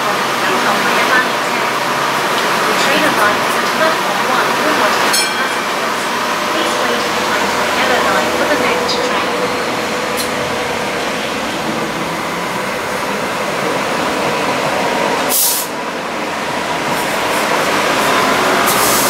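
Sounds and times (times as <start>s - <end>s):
tram rolling along: 0.0s - 19.0s.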